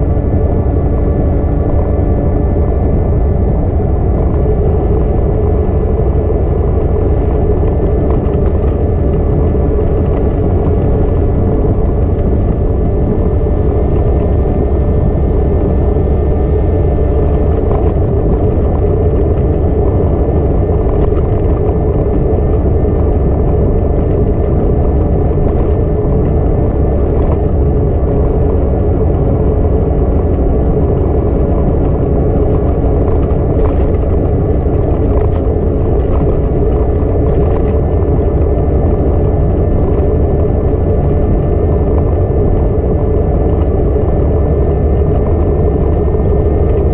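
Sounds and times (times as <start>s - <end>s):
faint steady hum of tones: 0.0s - 46.9s
wind buffeting microphone: 0.0s - 46.9s.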